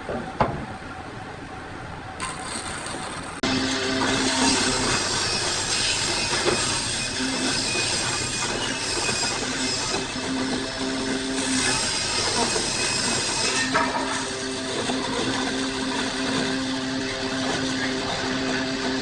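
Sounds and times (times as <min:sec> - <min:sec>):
power tool cutting wood: 0:02.2 - 0:19.0.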